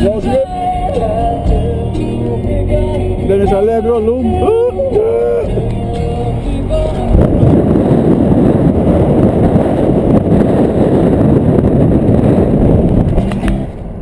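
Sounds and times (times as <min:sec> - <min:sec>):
wind buffeting microphone: 0:02.4 - 0:14.0.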